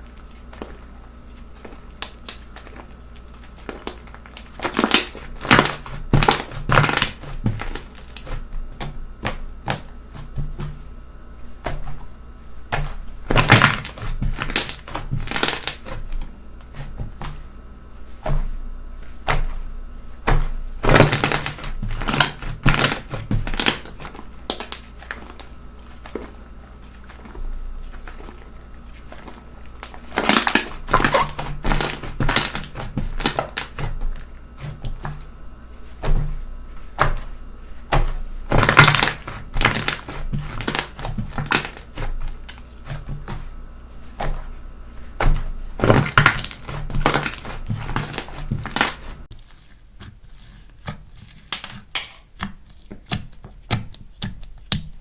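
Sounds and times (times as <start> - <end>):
slime crunchy crackling: 0.0 - 10.3, 12.7 - 17.3, 18.8 - 53.0.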